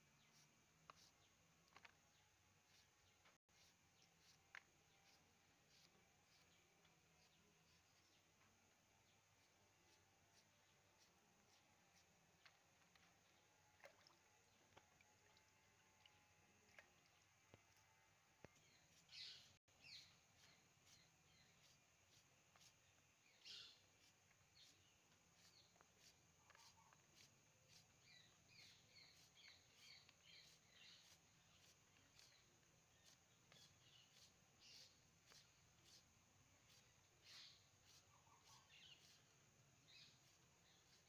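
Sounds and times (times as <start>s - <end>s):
faint birds chirping: 0.0s - 41.0s.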